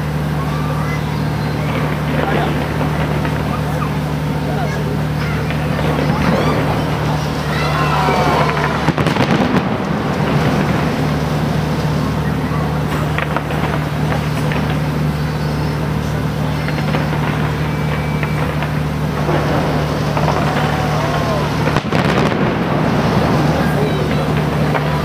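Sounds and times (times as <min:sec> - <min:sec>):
crowd of spectators: 0:00.0 - 0:25.0
steady low hum: 0:00.0 - 0:25.0.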